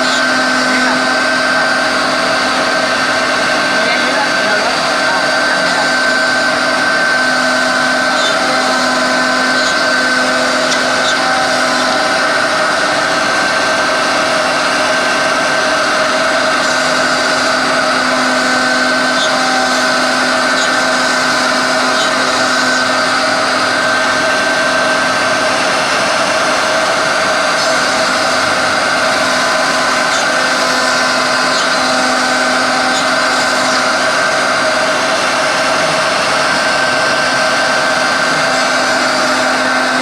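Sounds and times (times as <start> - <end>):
router spindle whine: 0.0 - 40.0.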